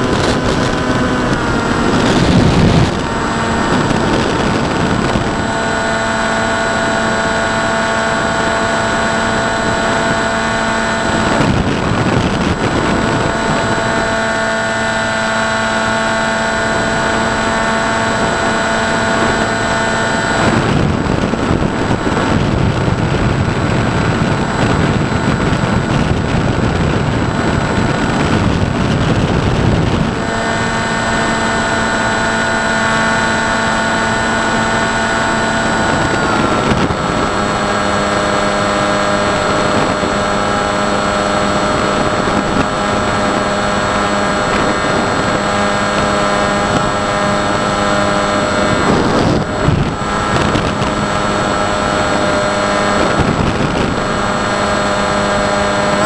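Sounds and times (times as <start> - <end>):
model plane motor and propeller hum: 0.0 - 56.0
wind rushing: 0.0 - 56.0.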